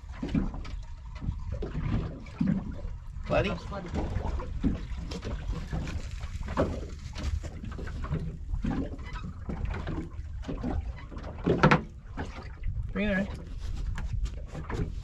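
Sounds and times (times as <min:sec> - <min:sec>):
wind and water against hull: 0:00.0 - 0:15.0.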